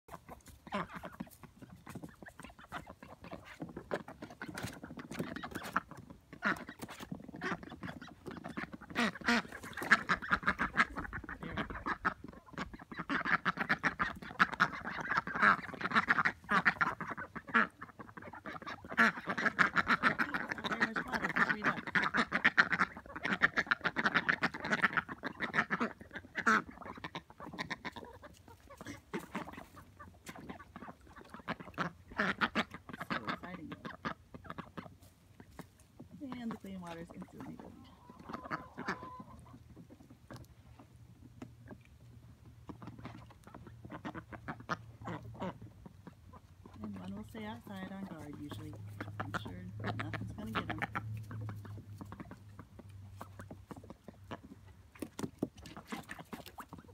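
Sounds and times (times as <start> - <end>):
ducks quacking: 0.1 - 56.9.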